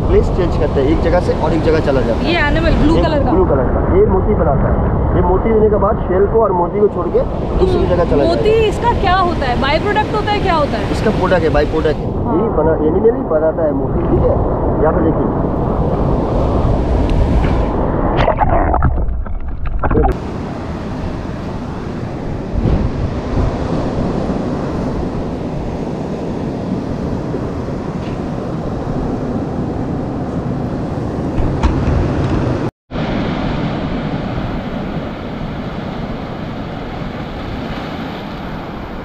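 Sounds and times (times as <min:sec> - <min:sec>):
sea waves washing on shore: 0:00.0 - 0:05.6, 0:06.7 - 0:12.5, 0:13.8 - 0:39.0
wind on microphone: 0:00.0 - 0:39.0.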